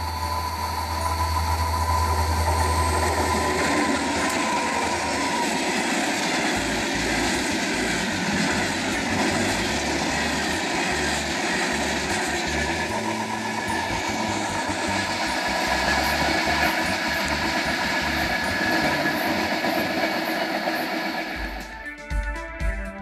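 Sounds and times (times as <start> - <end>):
locomotive engine drone: 0.0 - 22.6
train wheels rumbling on rails: 0.0 - 23.0.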